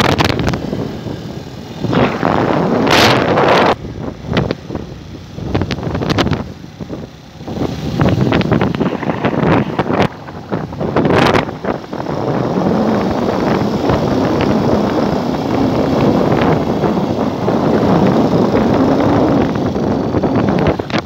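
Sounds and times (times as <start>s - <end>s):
engine hum: 0.0s - 21.0s
wind buffeting microphone: 0.0s - 21.0s.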